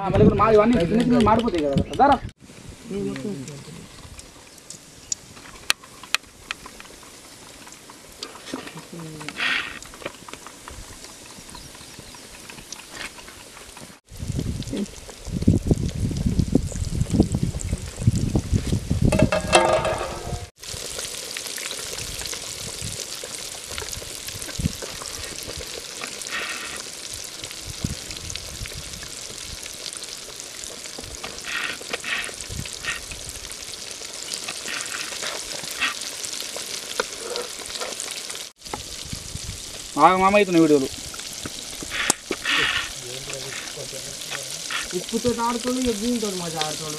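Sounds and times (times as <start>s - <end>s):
chicken deep-frying in oil: 2.7s - 46.9s.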